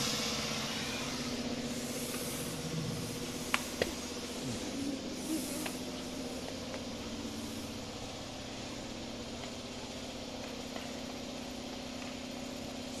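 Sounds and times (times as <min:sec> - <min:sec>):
even hiss: 0:00.0 - 0:13.0
machinery hum: 0:00.0 - 0:13.0.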